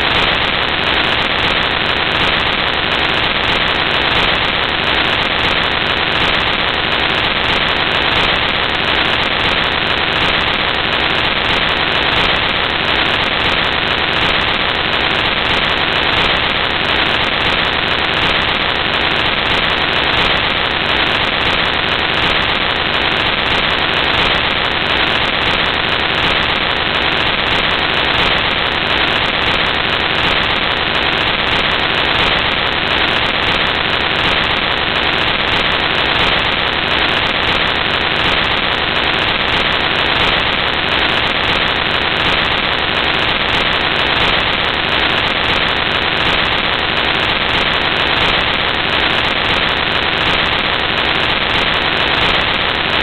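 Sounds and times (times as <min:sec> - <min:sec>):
static hiss: 0:00.0 - 0:53.0.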